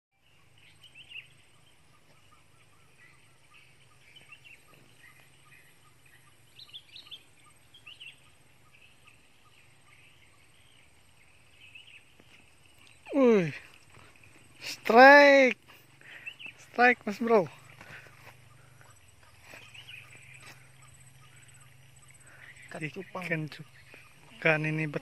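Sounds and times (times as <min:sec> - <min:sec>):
birds chirping: 0:00.1 - 0:25.0.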